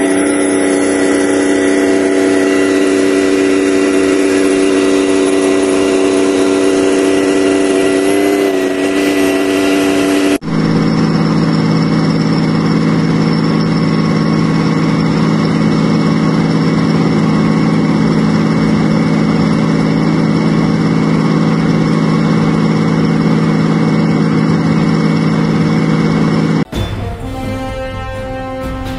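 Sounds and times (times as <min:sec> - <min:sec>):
tank diesel engine humming: 0:00.0 - 0:28.9.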